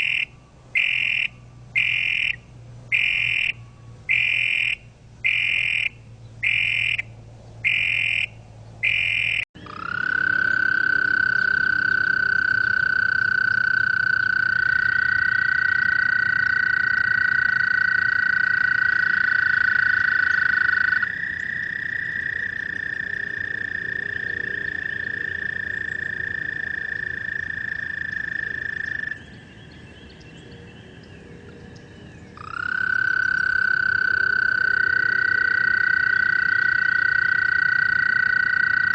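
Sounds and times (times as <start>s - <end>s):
toads calling and trilling: 0.0s - 38.9s.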